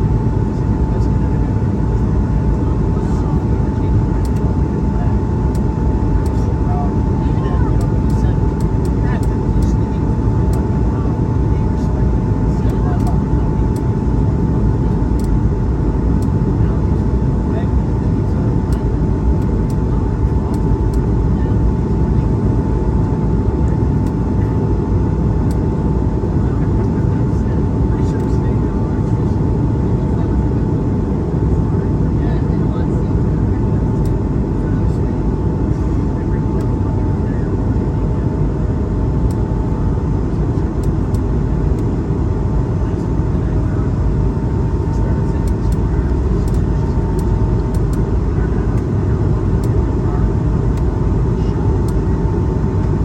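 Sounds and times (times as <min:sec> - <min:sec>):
airplane cabin rumble: 0:00.0 - 0:53.0
thin steady whine: 0:00.0 - 0:53.0.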